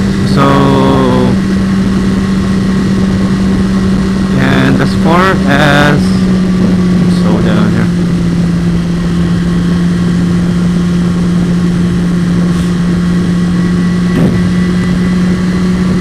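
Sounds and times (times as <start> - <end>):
motorcycle engine cruising: 0.0 - 16.0
road and wind noise: 0.0 - 16.0.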